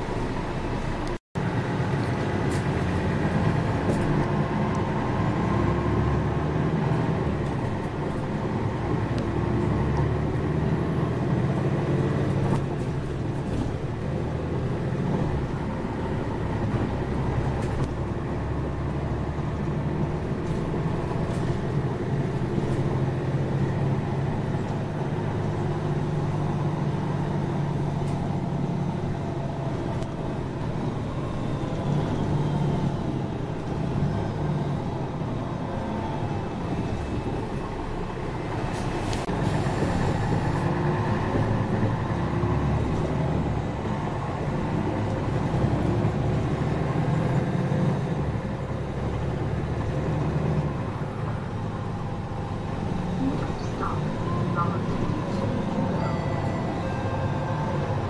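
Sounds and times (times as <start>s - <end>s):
bus engine hum: 0.0s - 58.0s
road noise: 0.0s - 58.0s.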